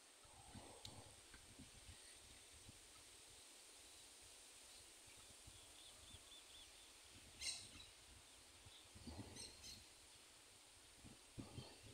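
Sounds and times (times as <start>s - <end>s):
faint birdsong: 0.0s - 11.9s.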